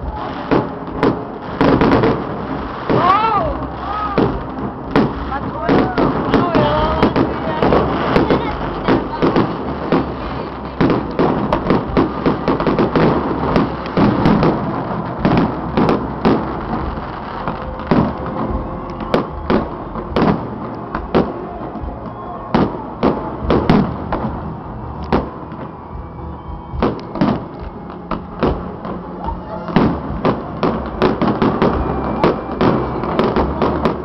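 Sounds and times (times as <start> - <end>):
firecrackers banging: 0.0 - 34.0.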